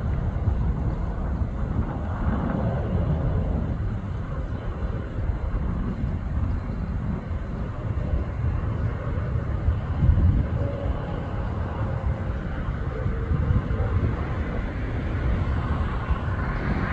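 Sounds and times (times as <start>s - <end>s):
distant jet engine rumble: 0.0s - 16.9s
wind on microphone: 0.0s - 16.9s.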